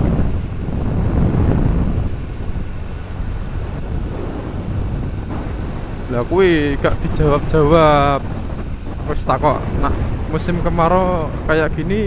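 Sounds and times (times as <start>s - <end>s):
motorcycle engine rumble: 0.0s - 12.0s
wind rushing over microphone: 0.0s - 12.0s.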